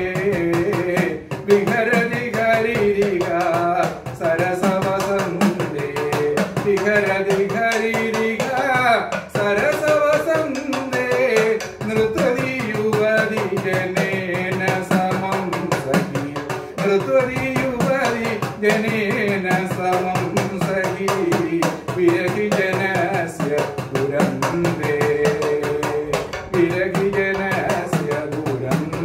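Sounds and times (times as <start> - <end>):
man singing ornamented vocal line: 0.0 - 29.0.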